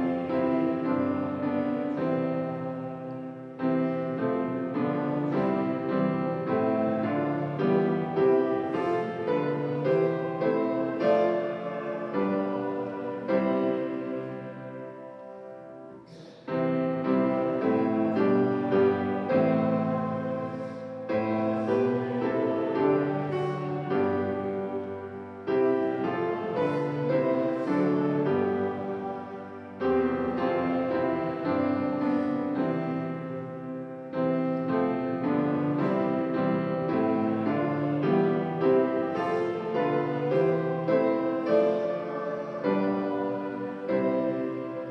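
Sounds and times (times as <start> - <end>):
piano playing slow hymn tune: 0.0 - 44.9.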